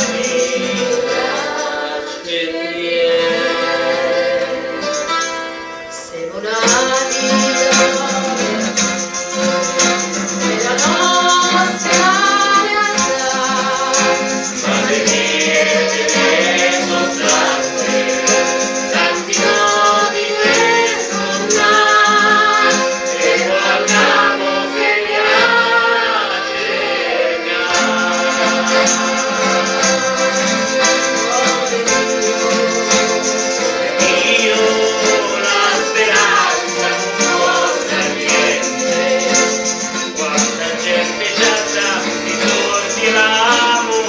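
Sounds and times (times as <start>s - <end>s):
instrumental backing music: 0.0s - 44.0s
singers and choir singing: 0.0s - 44.0s.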